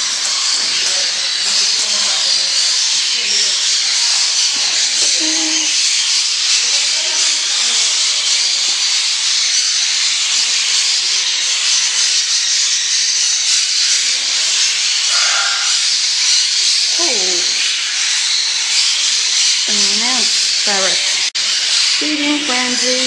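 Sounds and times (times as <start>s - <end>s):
flock of budgerigars chattering: 0.0s - 23.0s.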